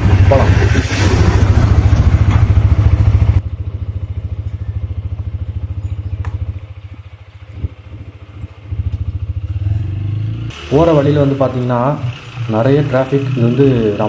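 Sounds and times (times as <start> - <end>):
motorcycle engine pulsing: 0.0 - 14.0.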